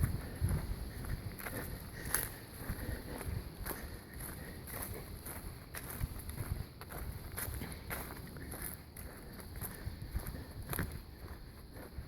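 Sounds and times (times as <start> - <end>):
footsteps on trail: 0.0 - 12.0.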